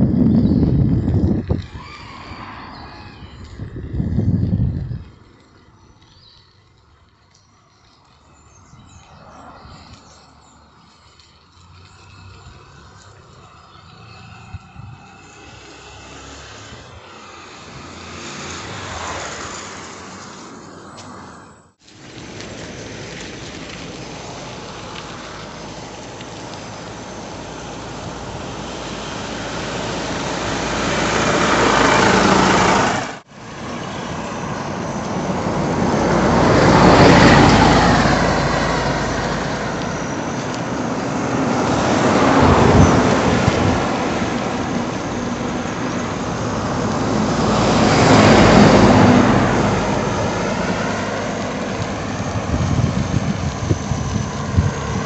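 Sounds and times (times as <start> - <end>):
traffic passing by: 0.0 - 55.0.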